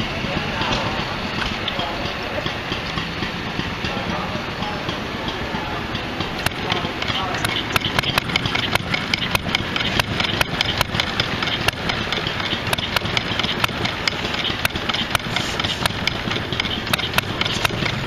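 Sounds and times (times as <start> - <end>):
engine mechanical clatter: 0.0 - 18.0
gas engine exhaust pops: 0.0 - 18.0.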